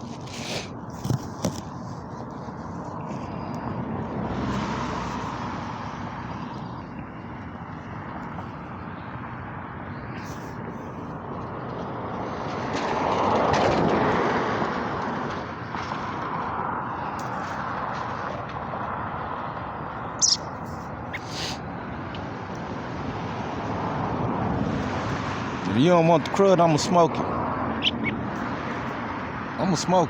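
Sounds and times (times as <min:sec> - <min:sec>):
rush of passing vehicles: 0:00.0 - 0:30.0.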